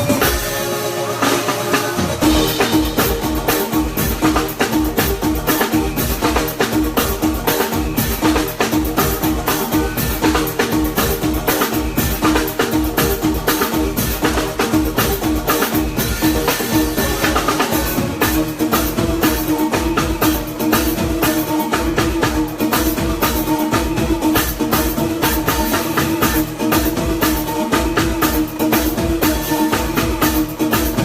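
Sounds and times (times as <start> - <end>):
bass line: 0.0 - 31.0
drum kit beat: 0.0 - 31.0.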